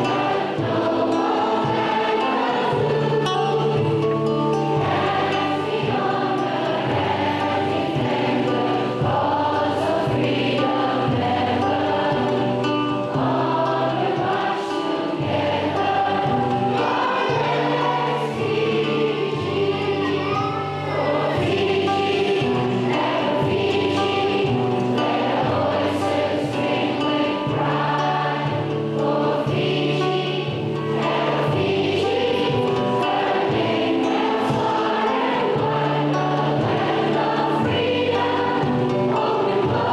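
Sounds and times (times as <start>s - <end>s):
choir singing sustained chords: 0.0s - 39.9s.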